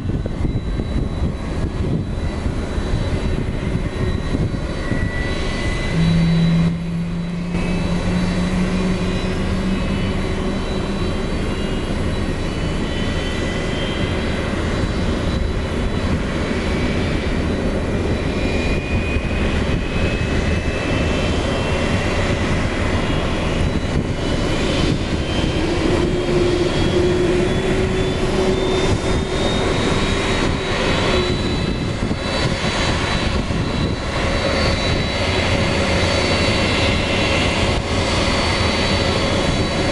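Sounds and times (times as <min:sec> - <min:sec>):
jet engine whine rising: 0:00.0 - 0:39.9
low rumble of aircraft machinery: 0:00.0 - 0:39.9.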